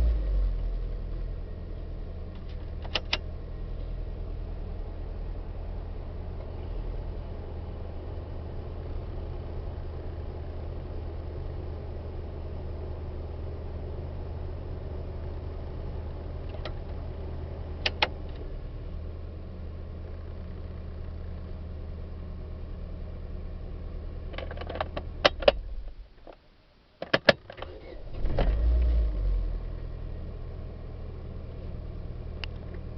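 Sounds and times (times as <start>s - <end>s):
car engine idling: 0.0s - 26.2s, 29.5s - 32.9s.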